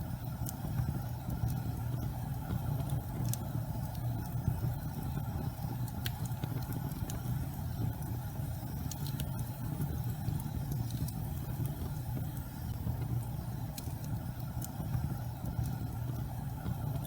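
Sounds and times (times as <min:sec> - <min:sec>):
faint crackles: 0:00.0 - 0:17.0
gas flames rumbling: 0:00.0 - 0:17.0.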